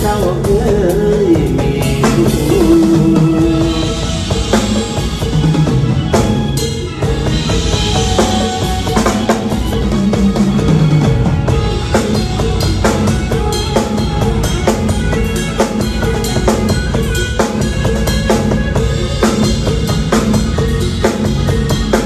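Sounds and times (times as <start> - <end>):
band music: 0.0 - 22.0
drum kit beat: 0.0 - 22.0.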